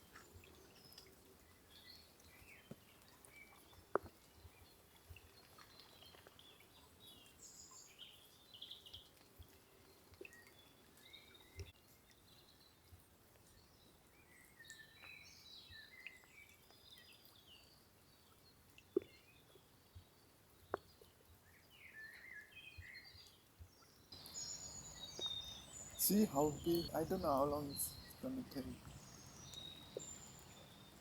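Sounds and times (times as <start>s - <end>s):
faint songbirds chirping: 0.0s - 31.0s.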